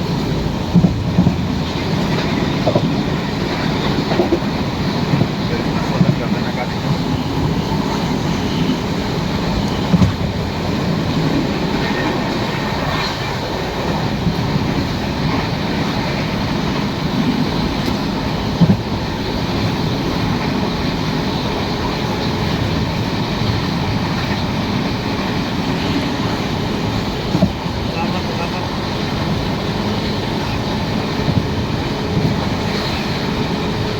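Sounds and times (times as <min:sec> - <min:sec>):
train rumble and wheel noise: 0:00.0 - 0:33.9.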